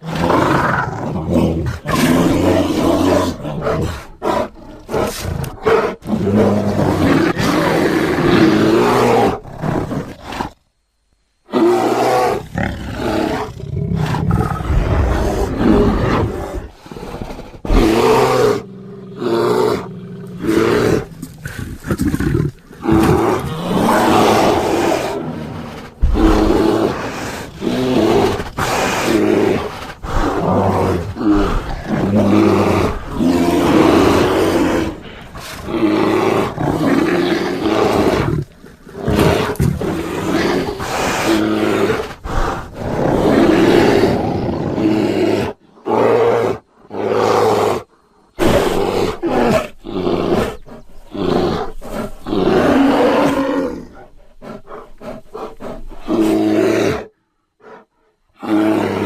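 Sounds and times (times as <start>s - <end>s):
bear growling and roaring: 0.0s - 10.6s, 11.4s - 59.0s.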